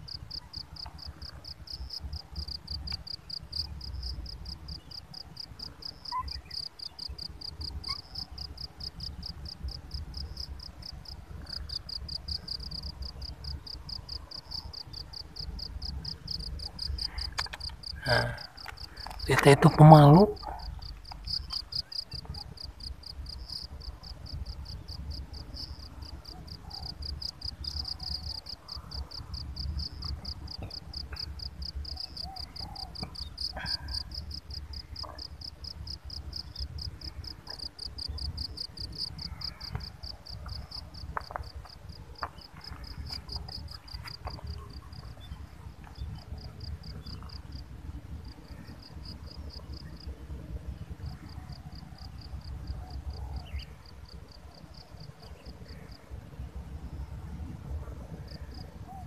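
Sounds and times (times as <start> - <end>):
insect chirping: 0.0 - 57.2.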